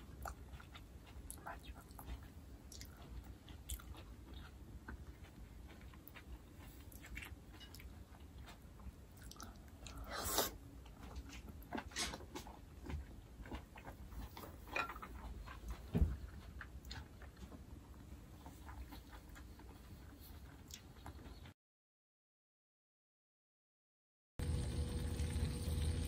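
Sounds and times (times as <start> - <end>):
wet chewing: 0.0 - 21.5.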